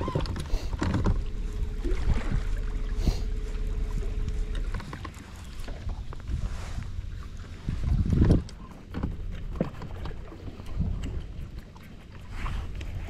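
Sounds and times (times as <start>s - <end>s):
thin steady hum: 0.0s - 13.0s
wind rumble on microphone: 0.0s - 13.0s.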